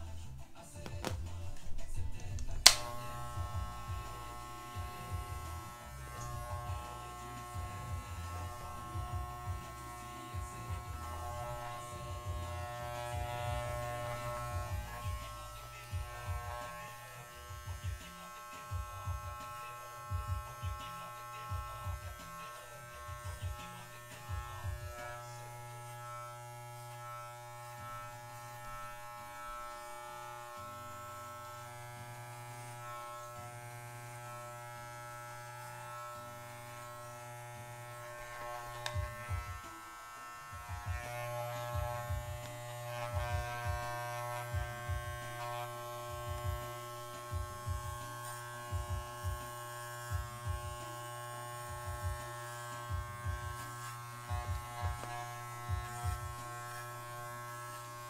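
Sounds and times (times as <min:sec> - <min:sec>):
electric clippers buzzing: 0:00.9 - 0:58.0.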